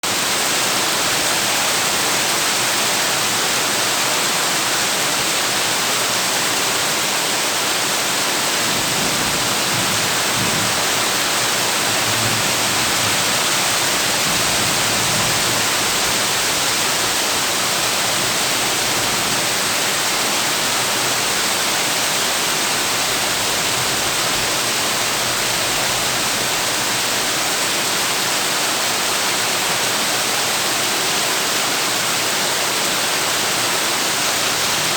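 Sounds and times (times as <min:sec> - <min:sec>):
heavy rain on a tin roof: 0:00.0 - 0:34.9.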